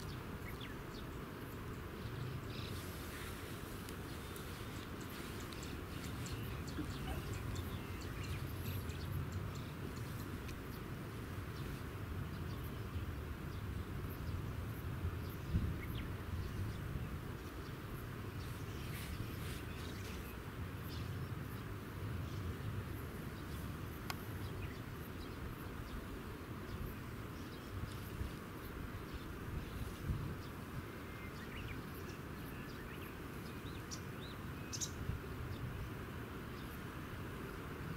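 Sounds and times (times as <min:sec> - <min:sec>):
faint insect or bird chirps: 0:00.0 - 0:37.9.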